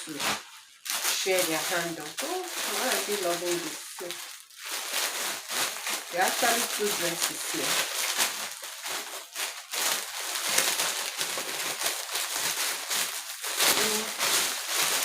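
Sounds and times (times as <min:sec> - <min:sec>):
packaging and fabric rustling: 0:00.0 - 0:15.0.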